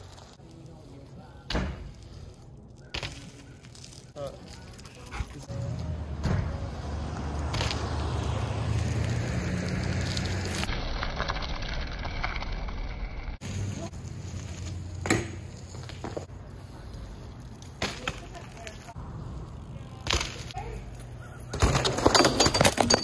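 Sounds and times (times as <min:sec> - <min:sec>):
bike tyres rolling on pavement: 0:00.0 - 0:22.8.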